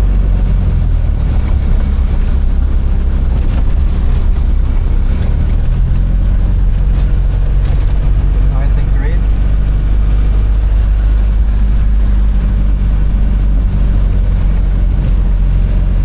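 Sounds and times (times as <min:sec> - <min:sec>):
van engine and road noise: 0:00.0 - 0:16.0.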